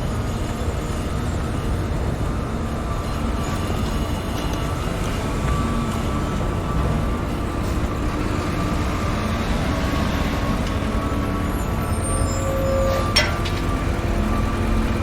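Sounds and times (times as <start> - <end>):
heavy machinery engine rumble: 0.0 - 15.0.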